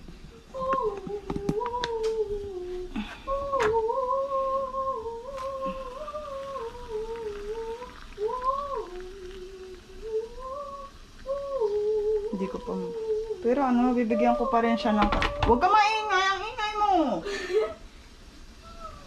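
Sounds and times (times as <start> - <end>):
person humming high: 0.4 - 15.6, 18.6 - 19.0.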